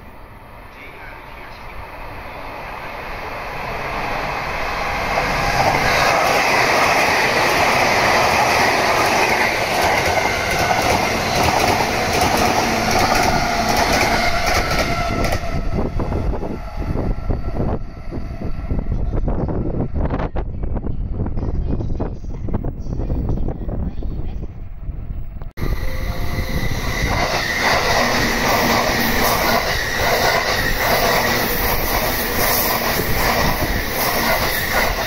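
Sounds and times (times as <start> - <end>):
electric train passing at speed: 0.0 - 35.0.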